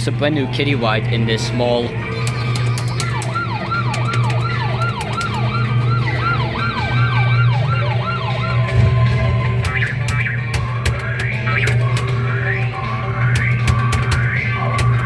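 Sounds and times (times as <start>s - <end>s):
electronic fire engine siren: 1.2s - 15.0s.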